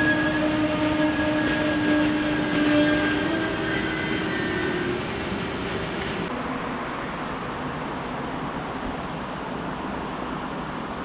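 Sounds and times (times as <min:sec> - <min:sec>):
electric train whine: 0:00.0 - 0:11.0
rail and road traffic: 0:00.0 - 0:11.0
train running noise: 0:00.0 - 0:11.0.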